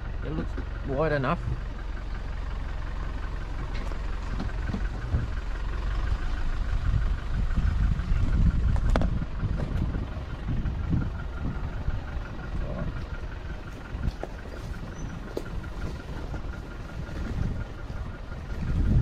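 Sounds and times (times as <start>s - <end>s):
vehicle engine running at low revs: 0.0s - 19.0s
vehicle knocks and rattles: 0.0s - 19.0s.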